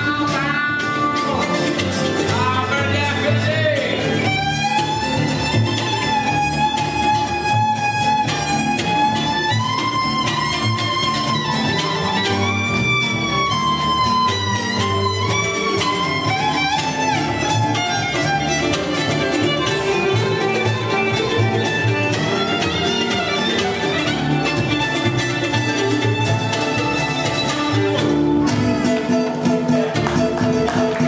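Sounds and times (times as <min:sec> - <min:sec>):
acoustic guitar: 0:00.0 - 0:31.0
mandolin: 0:00.0 - 0:31.0
upright bass: 0:00.0 - 0:31.0
fiddle bowed notes: 0:03.8 - 0:31.0.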